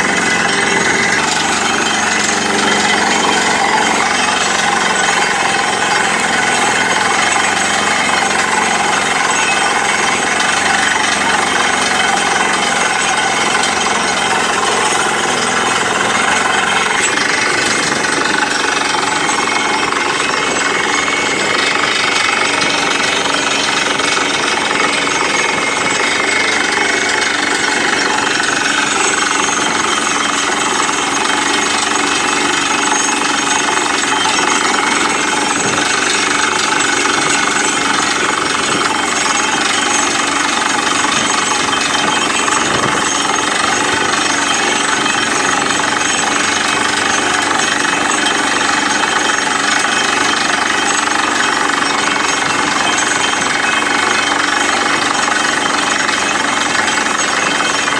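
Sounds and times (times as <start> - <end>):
engine and compressor running: 0.0 - 57.9
rapid hammering rattle of drill: 0.0 - 57.9.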